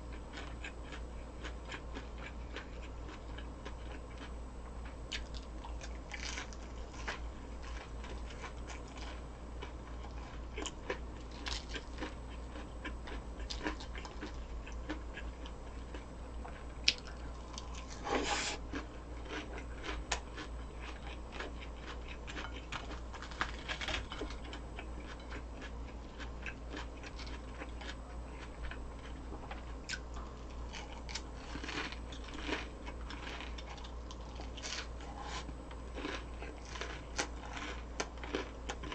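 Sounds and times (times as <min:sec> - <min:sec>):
chewing crisp fried food: 0:00.0 - 0:38.9.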